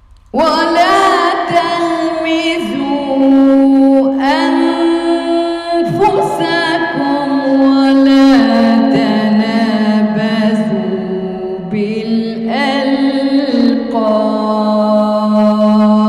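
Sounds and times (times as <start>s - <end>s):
woman reciting melodically: 0.3s - 16.0s.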